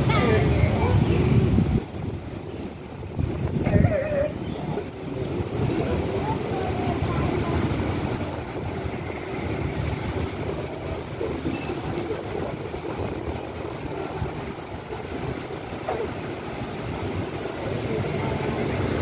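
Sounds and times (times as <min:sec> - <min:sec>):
distant locomotive rumble: 0:00.0 - 0:19.0.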